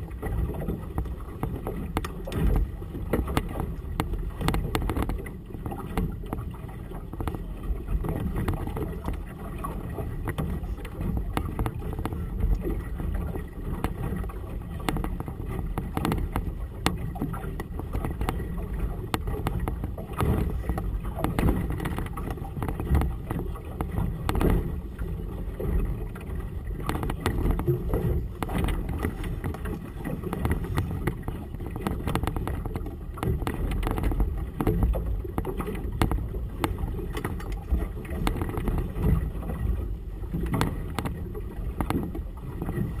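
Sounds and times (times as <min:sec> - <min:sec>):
water sloshing: 0:00.0 - 0:43.0
wind buffeting microphone: 0:00.0 - 0:43.0.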